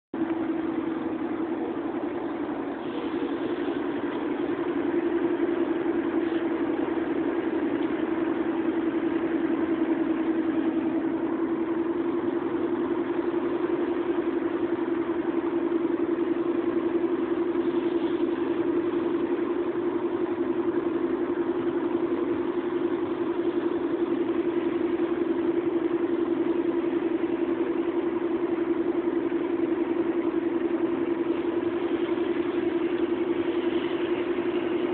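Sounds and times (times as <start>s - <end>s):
car cabin engine and road drone: 0.1s - 34.9s.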